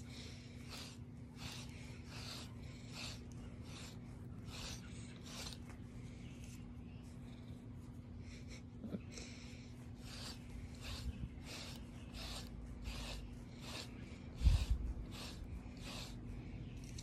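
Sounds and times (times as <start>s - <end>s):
comb raking through dog fur: 0.0s - 17.0s.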